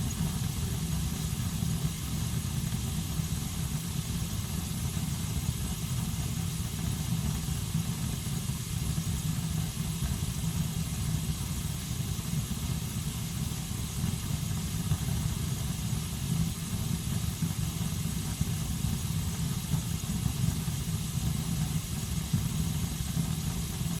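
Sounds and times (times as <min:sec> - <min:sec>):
faint hiss: 0:00.0 - 0:24.0.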